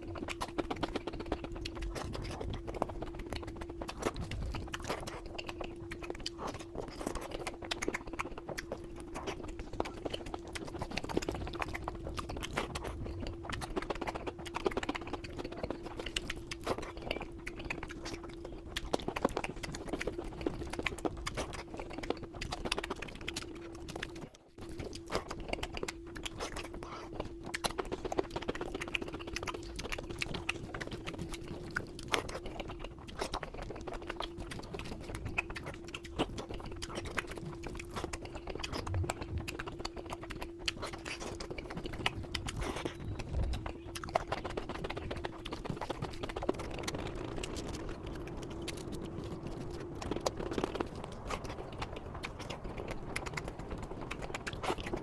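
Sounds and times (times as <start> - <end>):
person chewing food: 0.0 - 55.0
steady low hum: 0.0 - 55.0
wet mouth clicks and smacks: 0.0 - 55.0.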